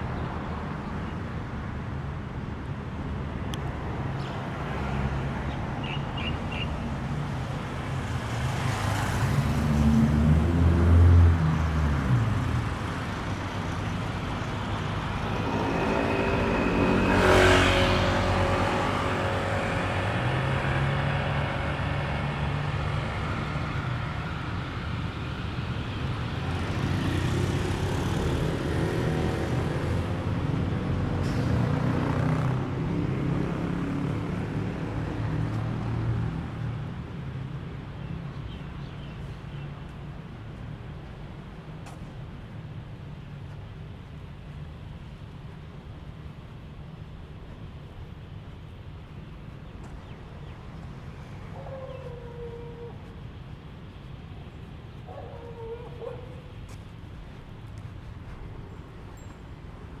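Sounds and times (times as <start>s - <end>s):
steady traffic hum: 0.0s - 60.0s
vehicles passing close by: 0.0s - 60.0s.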